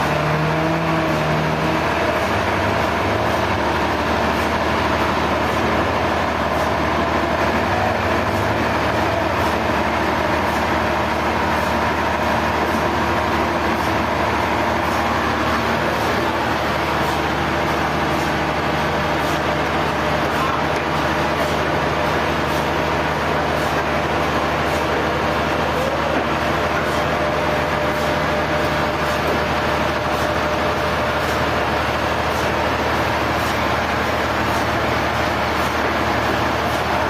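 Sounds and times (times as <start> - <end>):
sawmill machinery din: 0.0 - 37.0.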